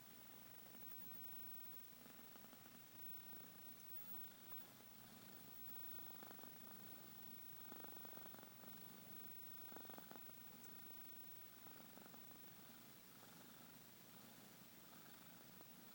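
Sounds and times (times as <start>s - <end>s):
cat snoring faintly: 0.0s - 15.9s.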